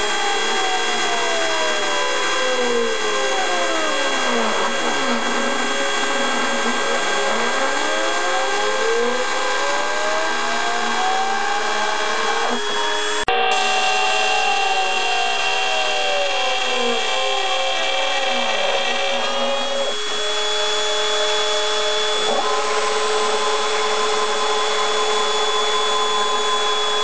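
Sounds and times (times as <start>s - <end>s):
motors gliding in pitch: 0.0s - 27.0s
router spindle whining: 0.0s - 27.0s.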